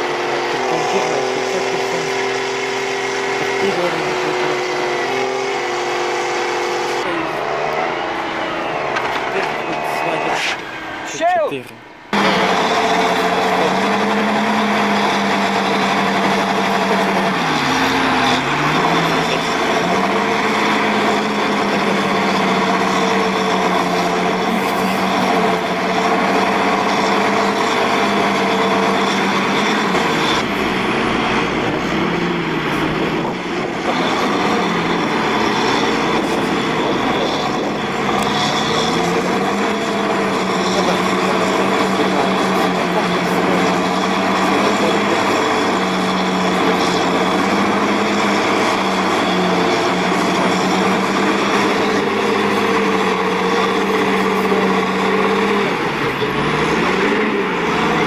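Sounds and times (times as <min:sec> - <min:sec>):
tractor engines under heavy load: 0:00.0 - 0:58.0.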